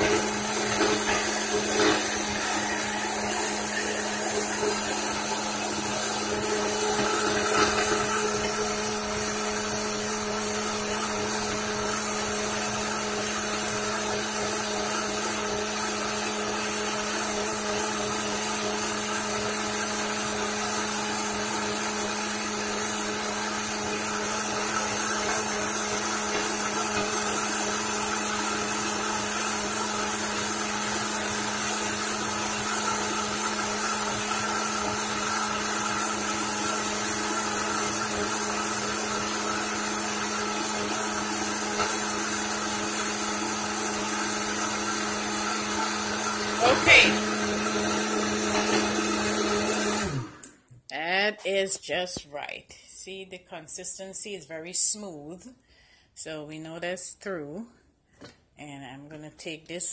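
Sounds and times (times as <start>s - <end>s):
blender motor whirring: 0.0s - 50.7s.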